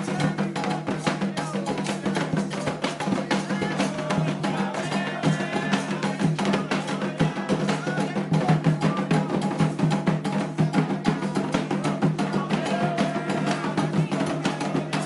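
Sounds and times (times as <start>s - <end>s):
hand drums fast rhythm: 0.0s - 15.0s.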